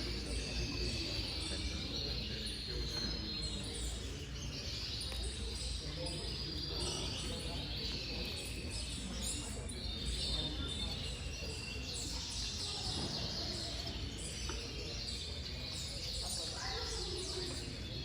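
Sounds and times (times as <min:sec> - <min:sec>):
canaries chirping and trilling: 0:00.0 - 0:18.0.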